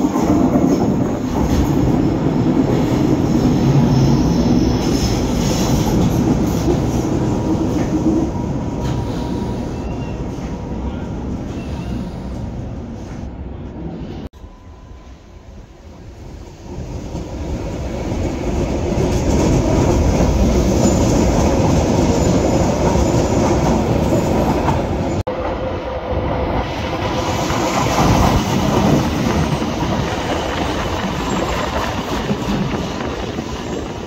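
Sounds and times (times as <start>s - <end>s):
train wheels on rails: 0.0s - 13.4s, 15.9s - 34.0s.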